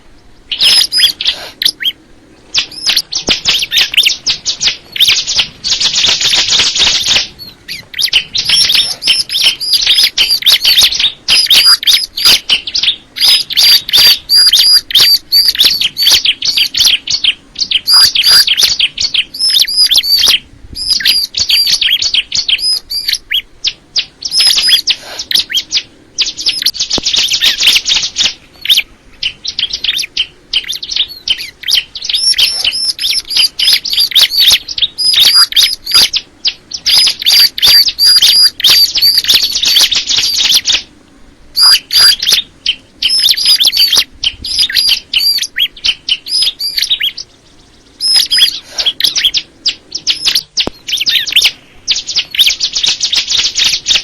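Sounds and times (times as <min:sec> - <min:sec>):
bird singing high chirps: 0:00.0 - 0:40.9, 0:41.6 - 0:54.0.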